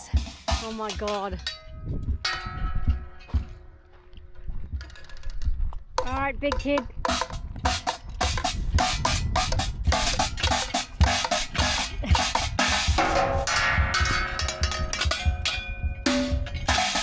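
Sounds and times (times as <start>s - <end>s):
junk percussion drum strikes: 0.0s - 3.8s, 6.0s - 17.0s
ringing metallic tones: 0.0s - 4.1s, 6.6s - 17.0s.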